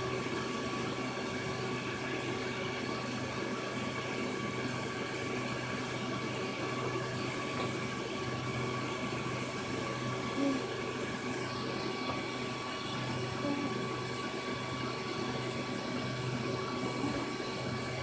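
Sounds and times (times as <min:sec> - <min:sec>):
filter pump hum: 0:00.0 - 0:18.0.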